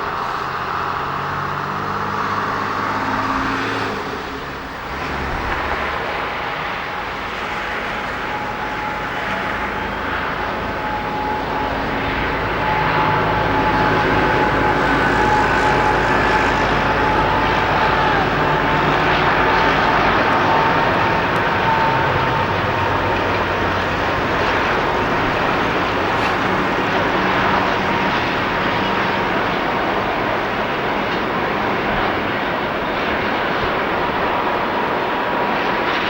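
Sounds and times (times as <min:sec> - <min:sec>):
diesel train engine with whine: 0:00.0 - 0:36.0.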